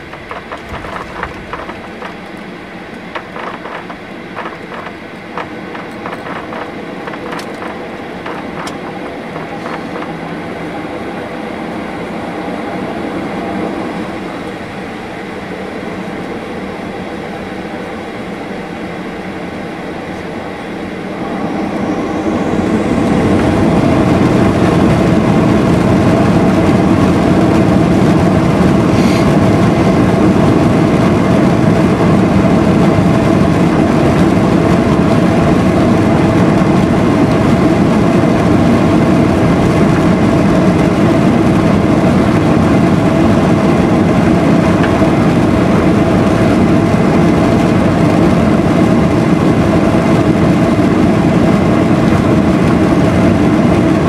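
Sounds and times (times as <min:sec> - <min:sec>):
jet engine noise in cabin: 0:00.0 - 0:54.0.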